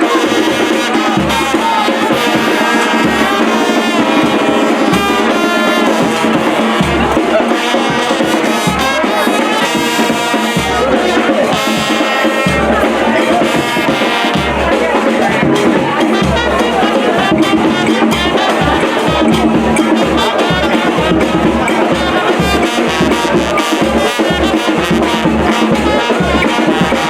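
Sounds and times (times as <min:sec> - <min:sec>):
brass horns playing melody: 0:00.0 - 0:27.0
low drum beat: 0:00.0 - 0:27.0.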